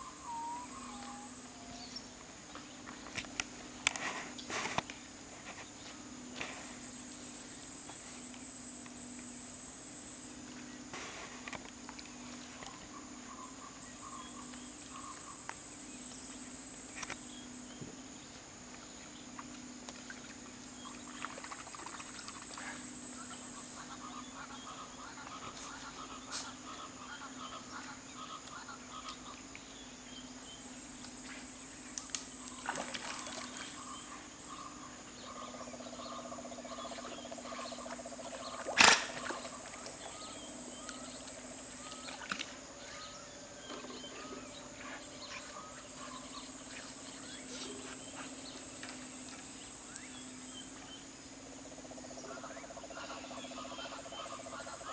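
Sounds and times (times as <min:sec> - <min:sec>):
insects and frogs calling: 0:00.0 - 0:54.9.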